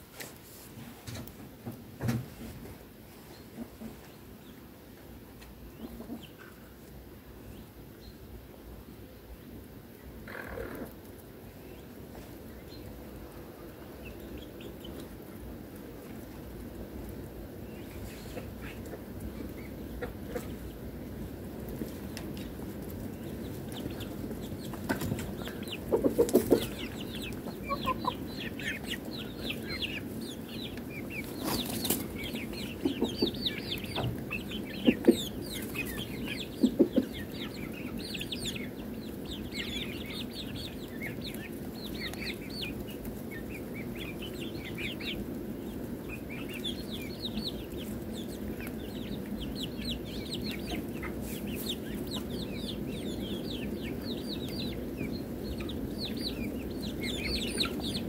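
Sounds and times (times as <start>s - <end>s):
chickens clucking: 0.0s - 8.6s, 9.5s - 58.0s.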